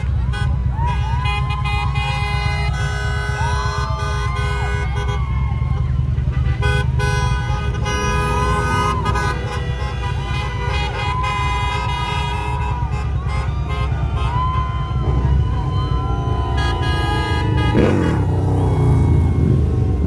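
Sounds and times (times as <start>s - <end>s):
low rumble of vehicles: 0.0s - 20.0s
vehicle horns honking: 0.0s - 20.0s.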